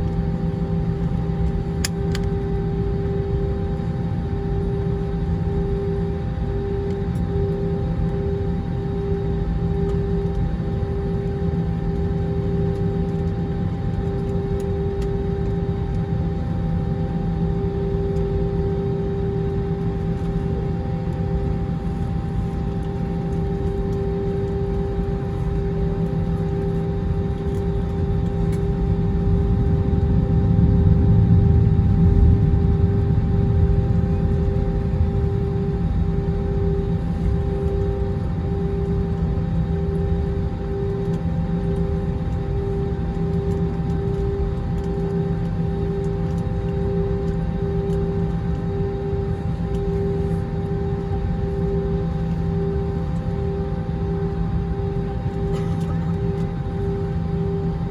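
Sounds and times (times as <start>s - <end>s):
jet engines humming: 0.0s - 57.9s.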